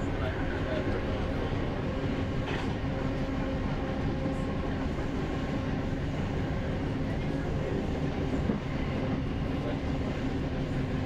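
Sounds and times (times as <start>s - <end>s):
train ride rumble: 0.0s - 11.0s.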